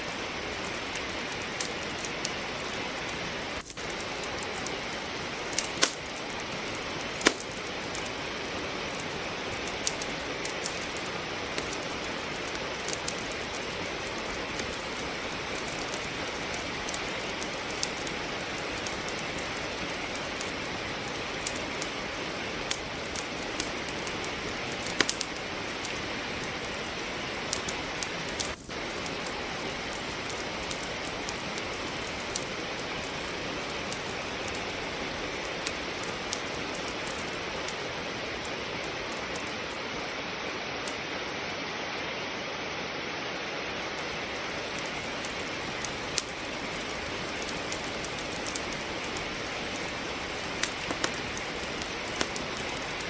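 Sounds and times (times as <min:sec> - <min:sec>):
firewood crackling: 0:00.0 - 0:53.0
rain falling: 0:00.0 - 0:53.0.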